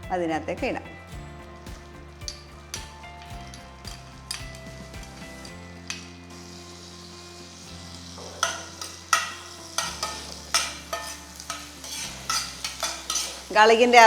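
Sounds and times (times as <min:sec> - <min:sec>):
garlic sizzling in butter: 0:01.6 - 0:14.0
spatula scraping pan: 0:01.7 - 0:14.0.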